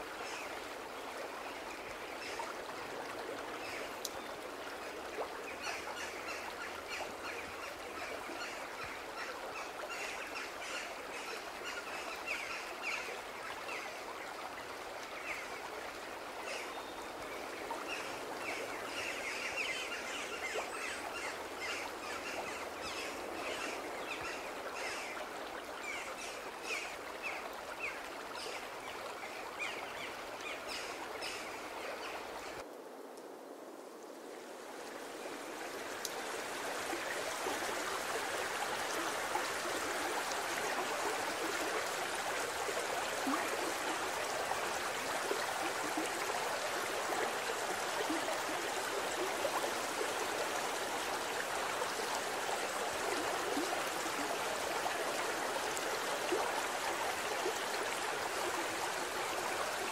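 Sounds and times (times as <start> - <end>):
stream rushing over boulders: 0.0 - 32.7, 33.7 - 59.9.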